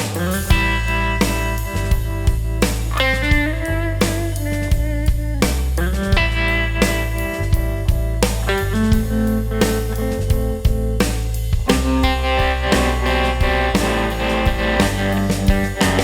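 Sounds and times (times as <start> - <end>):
band backing with drum kit: 0.0 - 16.0
electric guitar with tremolo: 0.0 - 16.0.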